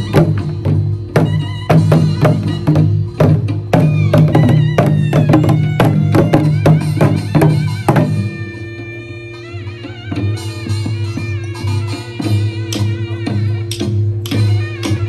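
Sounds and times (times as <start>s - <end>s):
barrel drums striking: 0.0s - 8.6s, 10.2s - 15.0s.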